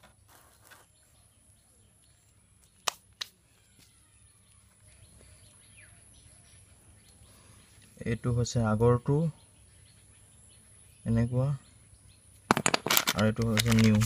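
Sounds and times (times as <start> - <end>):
faint bird chirps: 0.0 - 12.5.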